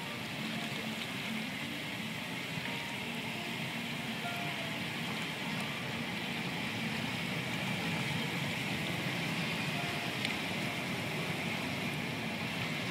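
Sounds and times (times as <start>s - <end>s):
hot tub jets bubbling: 0.0s - 12.9s.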